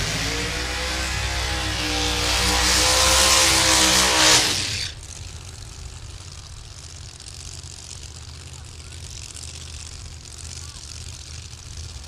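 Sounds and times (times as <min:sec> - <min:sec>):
drag car engine at high revs: 0:00.0 - 0:12.0.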